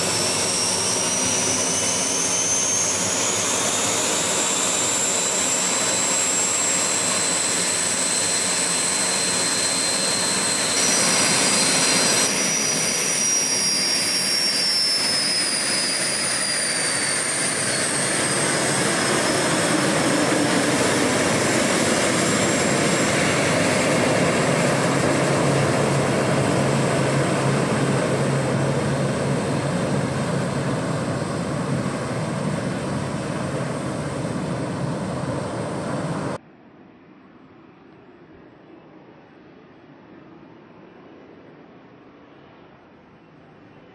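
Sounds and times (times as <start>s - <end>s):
jet engines whining: 0.0s - 36.4s.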